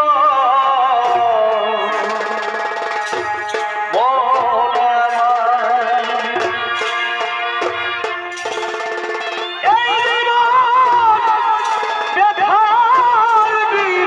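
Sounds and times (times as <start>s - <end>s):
drumming: 0.0s - 14.0s
reed pipe melody: 0.0s - 14.0s.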